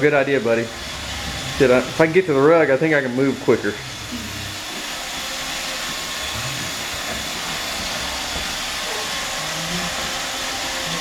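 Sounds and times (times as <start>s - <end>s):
robot vacuum whirring: 0.3s - 11.0s.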